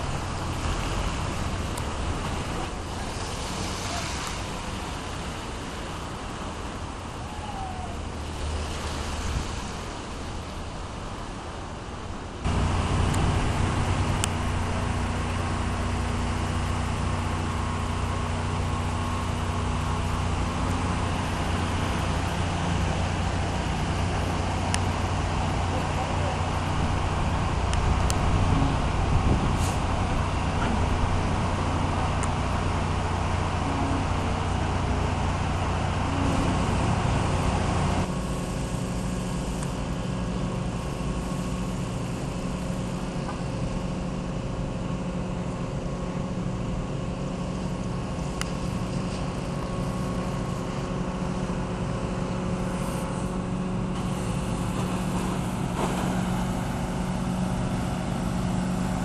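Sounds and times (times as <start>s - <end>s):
engine running steadily: 0.0s - 59.0s
noisy wash: 0.0s - 59.0s.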